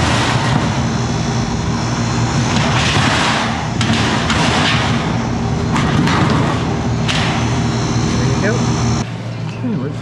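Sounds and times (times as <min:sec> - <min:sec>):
condenser fan air rushing: 0:00.0 - 0:10.0
low compressor hum: 0:00.0 - 0:10.0.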